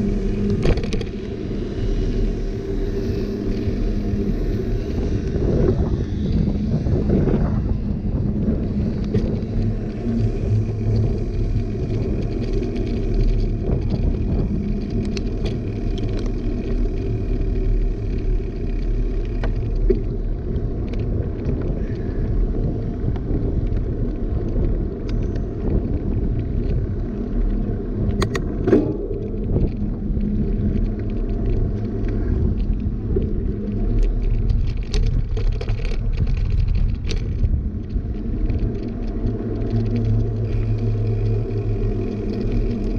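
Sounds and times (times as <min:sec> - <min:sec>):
bike clicks and rattles: 0:00.0 - 0:42.9
bike tyre rolling on asphalt: 0:00.0 - 0:42.9.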